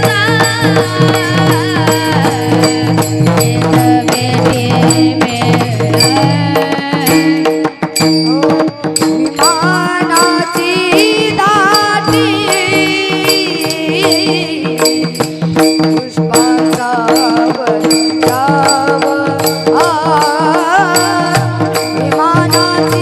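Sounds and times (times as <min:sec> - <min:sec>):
boy singing melismatic phrases: 0:00.0 - 0:07.7, 0:08.3 - 0:15.2, 0:15.9 - 0:23.0
drum and cymbal strokes: 0:00.0 - 0:23.0.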